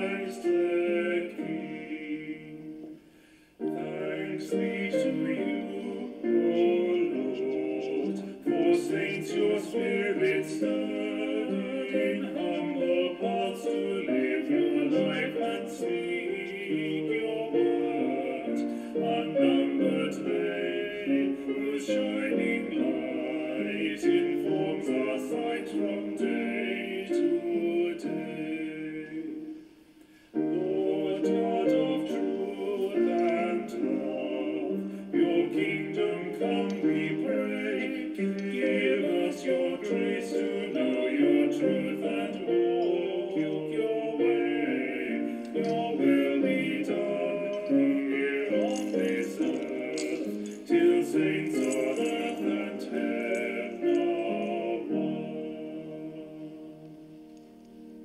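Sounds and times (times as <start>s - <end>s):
hymn singing: 0.0s - 58.0s
instrumental accompaniment: 0.0s - 58.0s.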